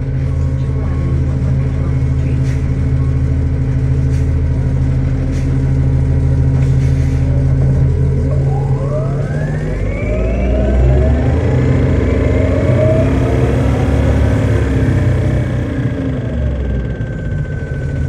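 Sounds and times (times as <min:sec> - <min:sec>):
bus running: 0:00.0 - 0:18.0
electric drive whining: 0:00.0 - 0:18.0.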